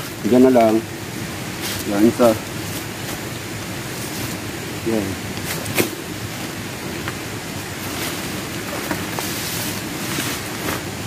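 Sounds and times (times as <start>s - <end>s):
leaves and stalks rustling: 0.0s - 11.0s
steady rushing noise: 0.0s - 11.0s.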